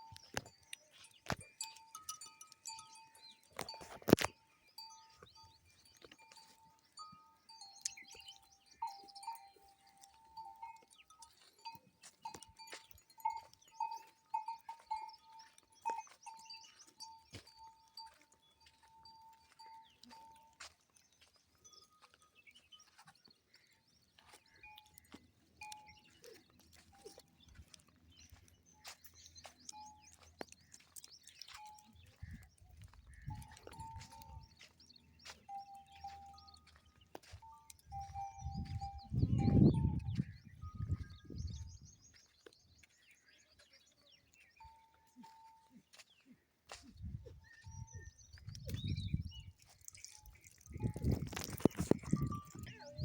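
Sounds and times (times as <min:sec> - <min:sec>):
livestock neck bells clanking: 0:00.0 - 0:53.0
small bird chirps: 0:00.0 - 0:53.0.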